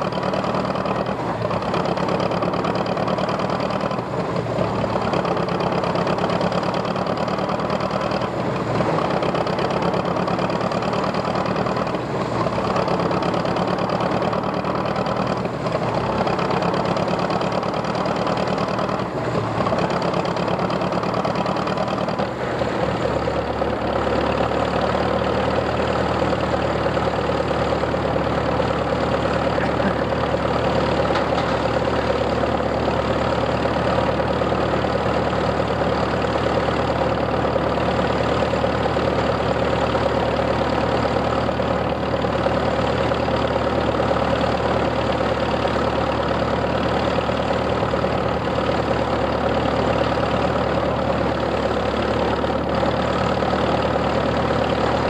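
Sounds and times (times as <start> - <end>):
threshing machine humming: 0.0 - 55.0
tractor engine running: 0.0 - 55.0.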